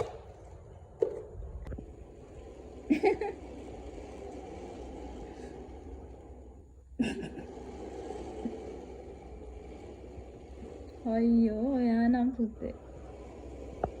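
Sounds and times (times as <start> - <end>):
toy truck wheels rolling: 0.0 - 14.0.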